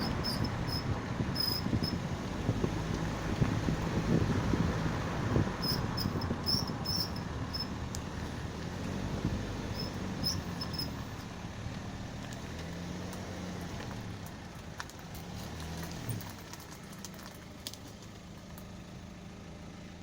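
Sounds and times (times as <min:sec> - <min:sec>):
wheel creaks and clicks: 0:00.0 - 0:11.4, 0:12.1 - 0:18.8
car engine hum: 0:00.0 - 0:20.0.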